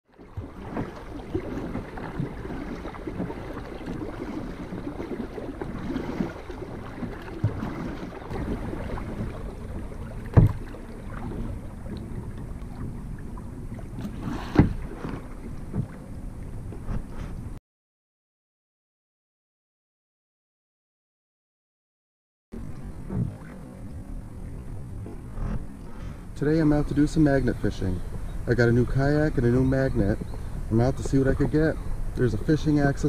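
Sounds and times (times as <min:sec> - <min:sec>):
paddle splashing water: 0:00.1 - 0:17.6, 0:22.6 - 0:33.0.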